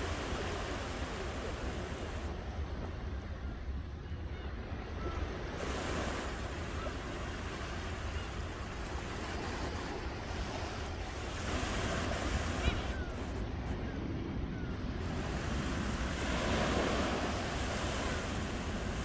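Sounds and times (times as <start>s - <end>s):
ocean waves breaking: 0.0s - 3.8s, 4.5s - 19.0s.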